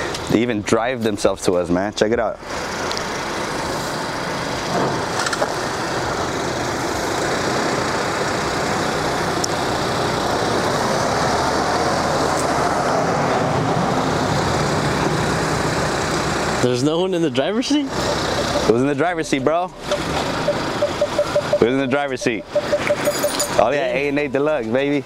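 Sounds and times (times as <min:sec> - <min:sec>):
cars running on a street: 0:00.0 - 0:25.0
pickup truck driving past: 0:02.4 - 0:23.6.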